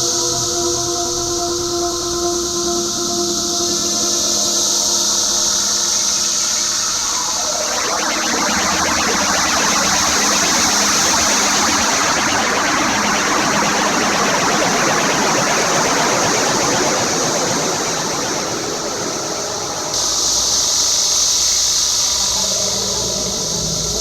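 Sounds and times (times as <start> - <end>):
cicadas chorus: 0.0 - 24.0
grainy flickering electronic noise: 1.6 - 24.0.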